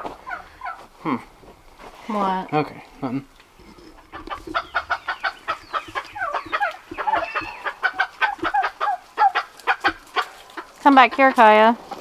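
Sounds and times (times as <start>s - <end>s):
poultry clucking: 0.0s - 0.9s, 2.2s - 11.8s.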